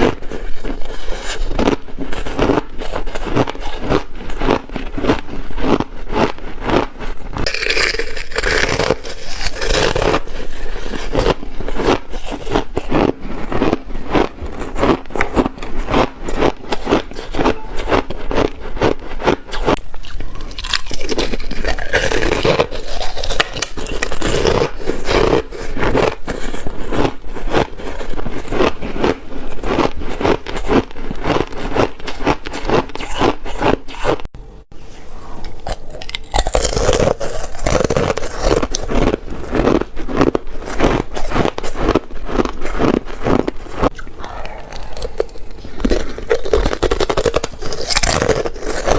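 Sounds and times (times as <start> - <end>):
person crunching ice: 0.0 - 34.3, 35.4 - 48.9.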